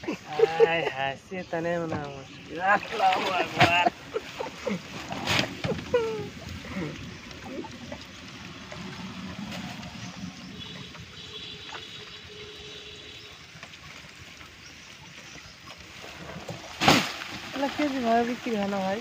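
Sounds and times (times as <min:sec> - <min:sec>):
faint water sounds: 0:00.0 - 0:19.0.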